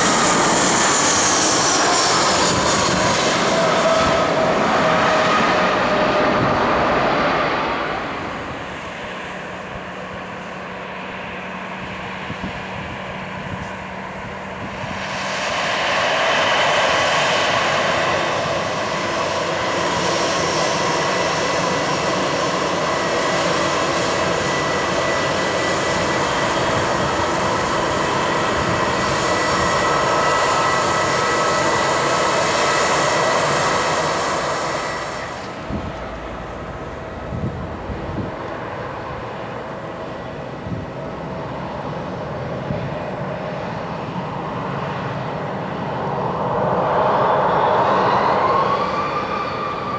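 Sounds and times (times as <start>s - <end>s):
jet engines whining and roaring: 0.0s - 49.9s.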